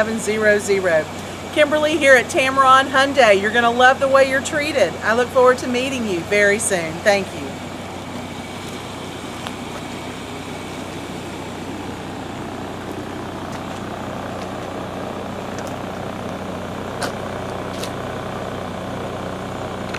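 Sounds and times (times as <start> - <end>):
vehicle engine idling: 0.0 - 19.9.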